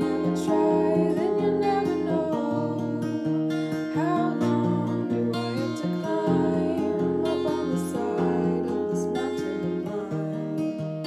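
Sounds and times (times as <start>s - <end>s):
strummed acoustic guitar: 0.0s - 11.0s
woman singing: 0.0s - 11.0s.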